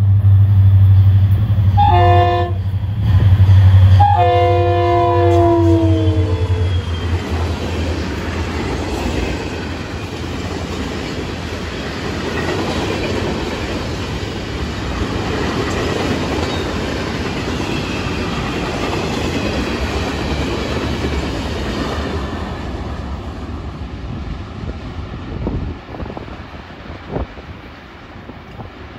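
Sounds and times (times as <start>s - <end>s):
diesel locomotive drone: 0.0s - 28.9s
train wheels rumbling on rails: 0.0s - 28.9s.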